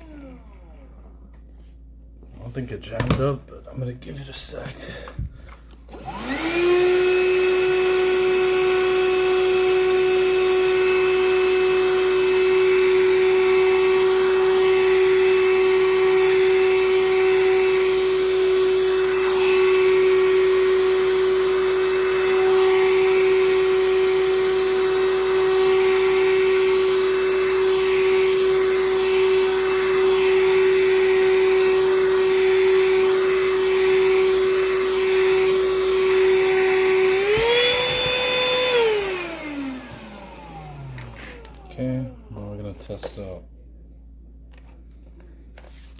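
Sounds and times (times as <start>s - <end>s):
handheld vacuum motor whine: 0.0s - 1.4s, 4.9s - 43.3s.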